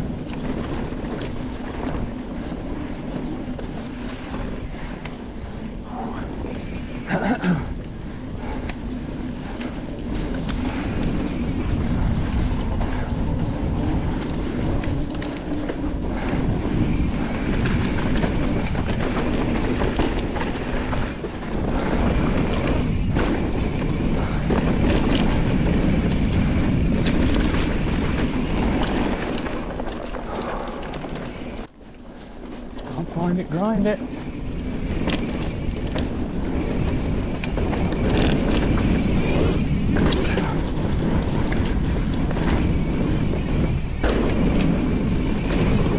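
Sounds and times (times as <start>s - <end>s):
bike frame clicks and clatters: 0.0s - 45.9s
bike tyres rumbling on dirt: 0.0s - 45.9s.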